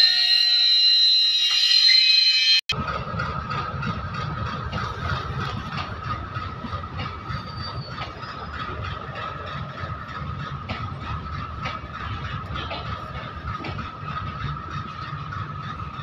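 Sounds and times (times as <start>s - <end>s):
train rumble: 2.7s - 16.0s
wheels clicking over rail joints: 2.7s - 16.0s.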